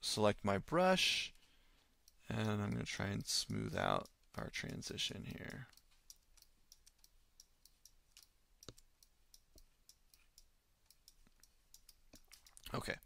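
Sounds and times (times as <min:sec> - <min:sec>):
computer mouse clicks: 0:02.1 - 0:12.6.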